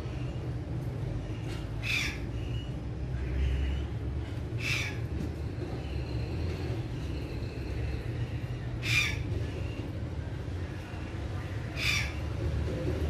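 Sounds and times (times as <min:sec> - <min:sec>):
steady low rumble: 0:00.0 - 0:13.0
harsh bird calls: 0:01.0 - 0:09.9, 0:10.6 - 0:12.5.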